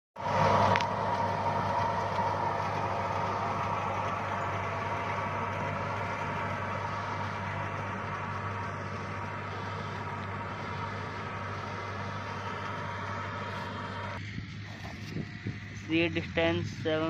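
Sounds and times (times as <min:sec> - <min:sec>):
steady machinery tone: 0:00.2 - 0:17.0
tractor engine running: 0:00.2 - 0:17.0.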